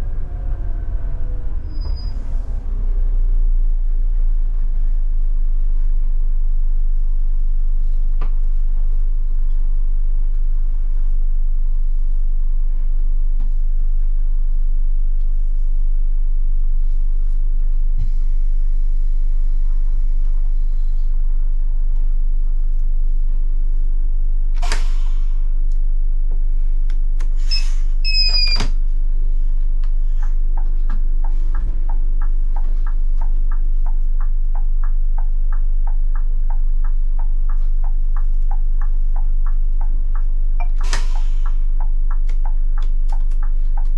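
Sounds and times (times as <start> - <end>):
bus diesel engine rumbling: 0.0 - 43.9.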